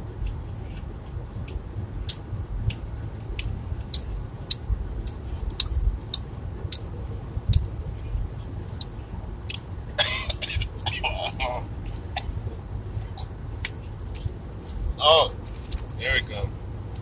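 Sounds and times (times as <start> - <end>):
low rumble inside car: 0.0 - 17.0.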